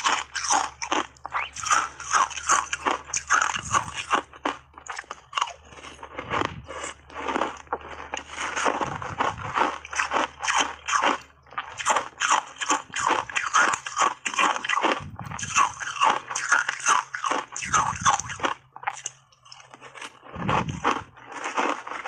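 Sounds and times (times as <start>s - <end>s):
chewing crunchy shaved ice: 0.0s - 22.0s.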